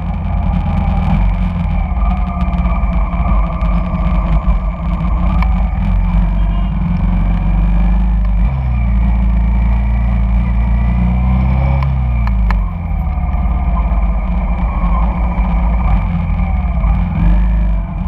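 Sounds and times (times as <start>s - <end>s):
motorbike traffic: 0.0s - 18.0s
motorcycle engine running: 0.0s - 18.0s
wind: 0.0s - 18.0s.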